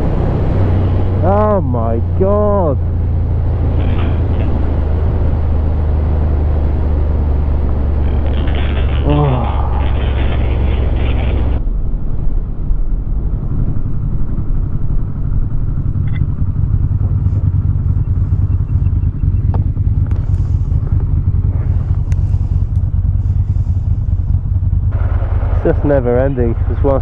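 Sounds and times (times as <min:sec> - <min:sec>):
motorcycle engine running: 0:00.0 - 0:11.6, 0:12.8 - 0:27.0.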